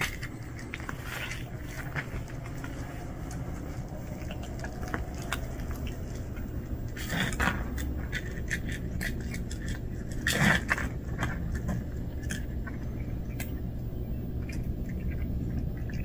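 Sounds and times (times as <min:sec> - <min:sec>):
cats crunching food: 0:00.0 - 0:16.0
low rumble: 0:00.0 - 0:16.0.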